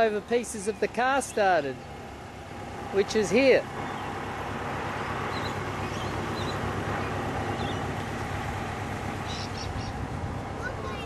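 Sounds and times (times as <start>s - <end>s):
highway traffic rushing past: 0.0s - 11.0s.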